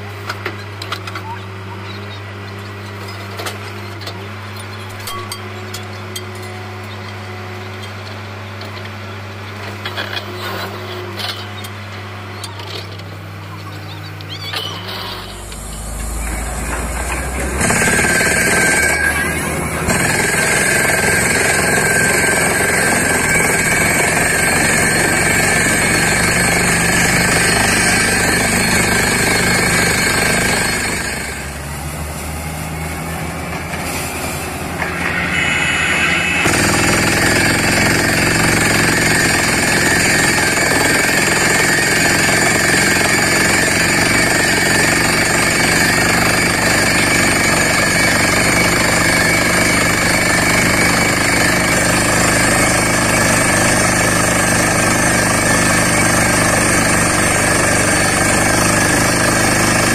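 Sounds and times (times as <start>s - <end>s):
drilling rig hammering: 2.6s - 10.3s, 14.3s - 31.8s, 32.4s - 59.9s.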